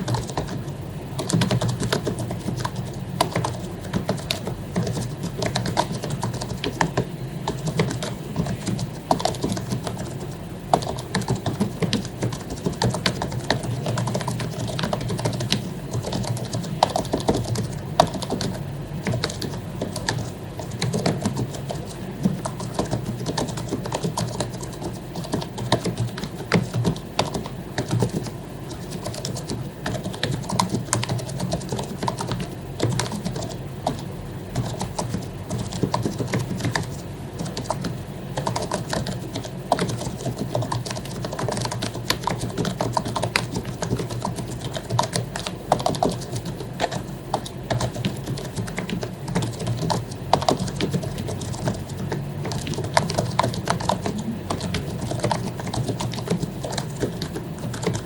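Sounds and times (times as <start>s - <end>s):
fast typing on keyboard: 0.0s - 58.0s.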